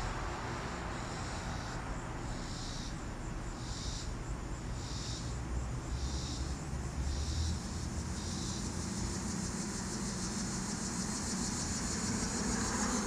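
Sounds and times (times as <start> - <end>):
insect chorus pulsing: 0.0 - 13.0
road traffic rumble: 0.0 - 13.0.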